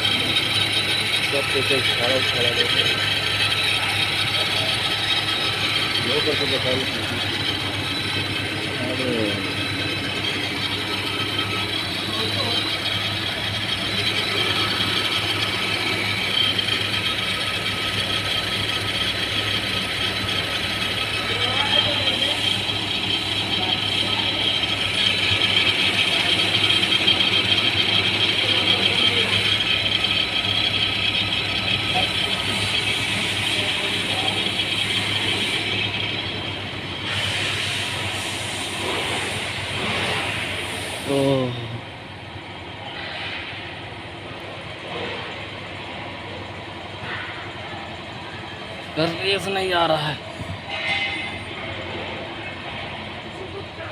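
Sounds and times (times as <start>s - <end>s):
car engine idling with ticking: 0.0s - 53.9s
hissing mechanical noise: 0.0s - 53.9s.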